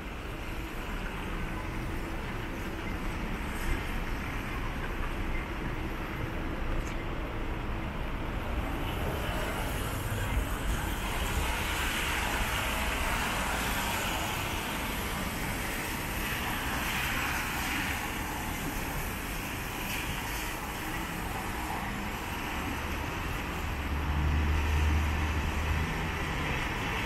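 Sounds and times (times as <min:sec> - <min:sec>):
tyres hissing on wet road: 0:00.0 - 0:27.0.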